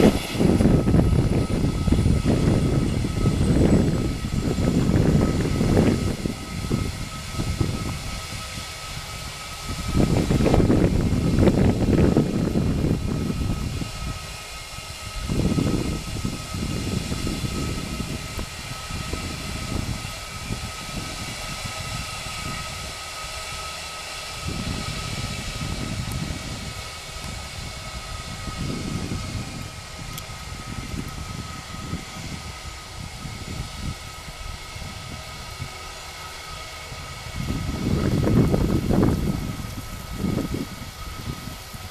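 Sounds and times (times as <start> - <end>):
jet engines whining: 0.0 - 41.9
wind rumbling on microphone: 0.0 - 41.9.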